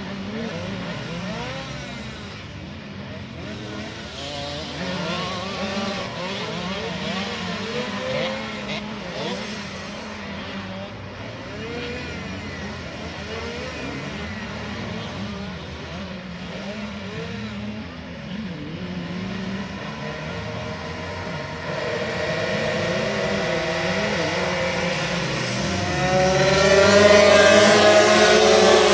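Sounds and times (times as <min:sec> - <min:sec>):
minibike engines racing: 0:00.0 - 0:28.9.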